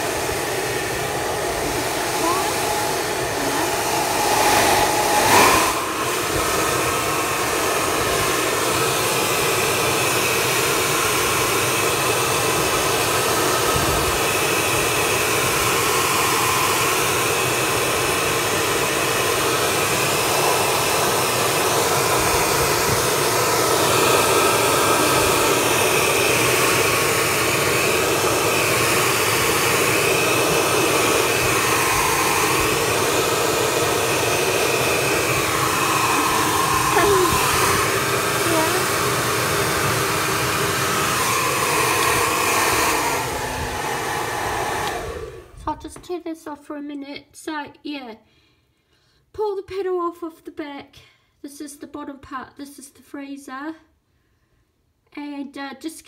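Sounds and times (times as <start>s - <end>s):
hair dryer blowing: 0.0s - 46.0s.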